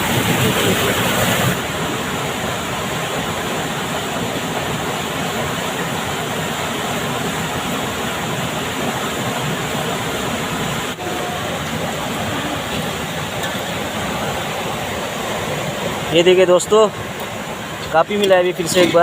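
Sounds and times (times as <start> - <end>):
fast-flowing river rushing: 0.0 - 19.0.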